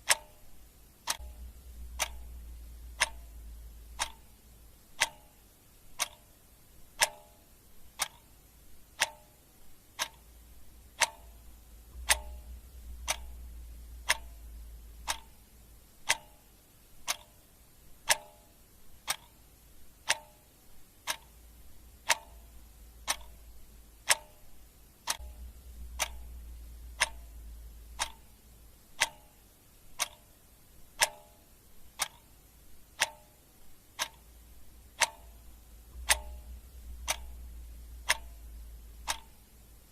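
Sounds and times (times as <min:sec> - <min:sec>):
clock ticking: 0:00.0 - 0:39.9
faint low rumble: 0:00.0 - 0:39.9.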